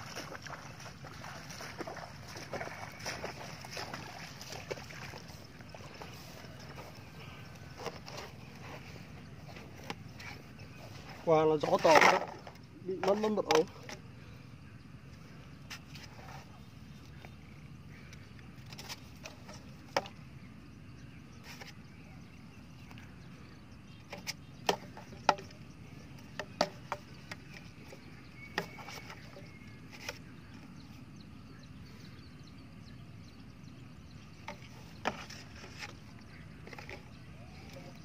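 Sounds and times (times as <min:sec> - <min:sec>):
low steady rumble: 0:00.0 - 0:38.0.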